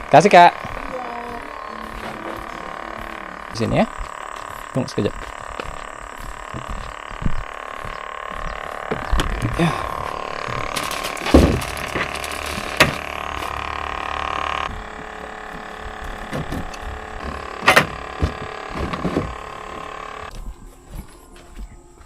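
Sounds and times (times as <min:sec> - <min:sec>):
motor hum: 0:00.0 - 0:22.0.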